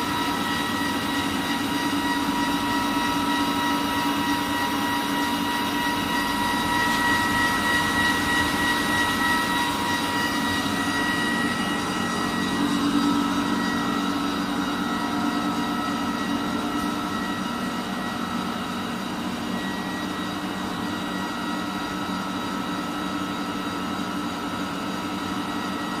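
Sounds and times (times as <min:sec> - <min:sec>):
lathe mechanical hum and whine: 0:00.0 - 0:26.0.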